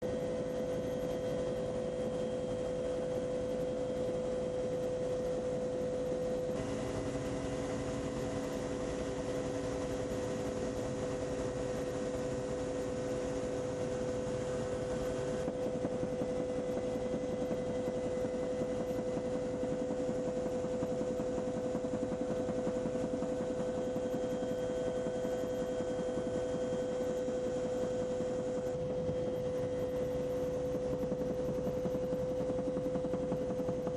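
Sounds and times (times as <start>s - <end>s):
helicopter engine hum and whine: 0.0s - 33.9s.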